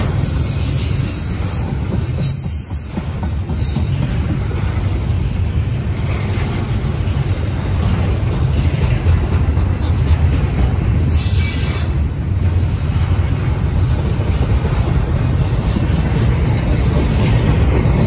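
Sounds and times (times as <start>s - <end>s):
rail cars rumbling on track: 0.0s - 18.0s.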